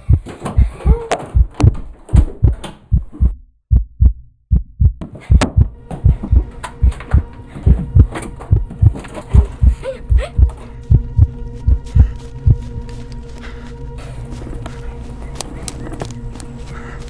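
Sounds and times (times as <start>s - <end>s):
low dull heartbeat thumps: 0.0s - 15.2s.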